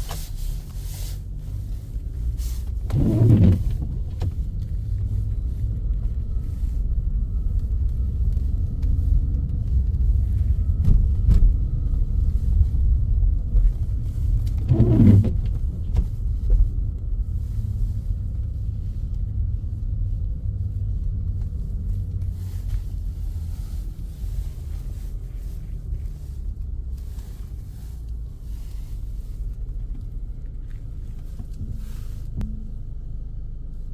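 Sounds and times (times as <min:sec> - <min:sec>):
car driving rumble: 0:00.0 - 0:33.9.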